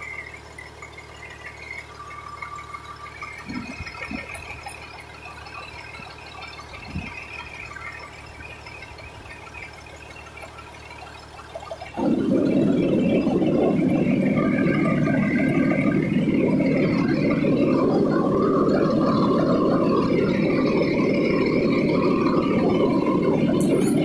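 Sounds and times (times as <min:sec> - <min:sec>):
fire engine running: 0:00.0 - 0:24.0.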